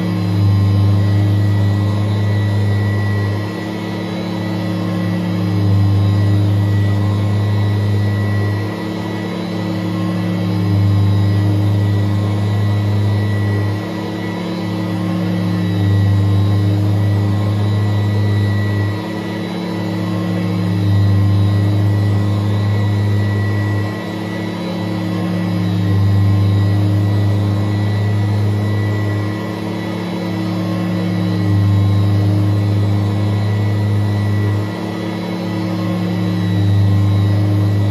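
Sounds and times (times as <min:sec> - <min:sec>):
vacuum cleaner motor hum: 0:00.0 - 0:37.9.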